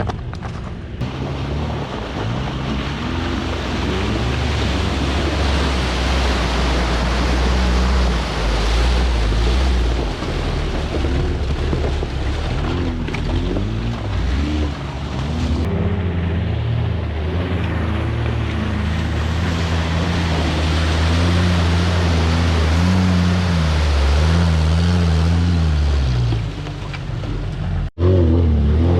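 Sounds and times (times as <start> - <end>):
vehicle engine labouring: 0.0 - 28.9
water and mud rushing: 0.9 - 28.9.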